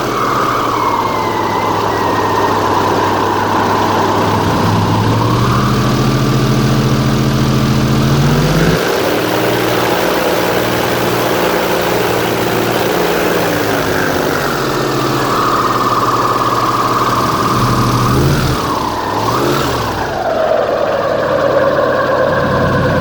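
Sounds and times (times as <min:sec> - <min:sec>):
airboat engine and propeller: 0:00.0 - 0:23.0.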